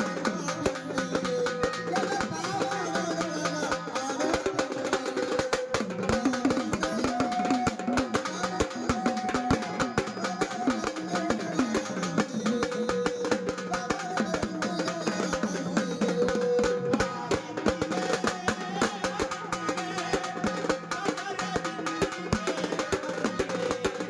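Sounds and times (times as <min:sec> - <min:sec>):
hand drum fast rhythm: 0:00.0 - 0:24.0.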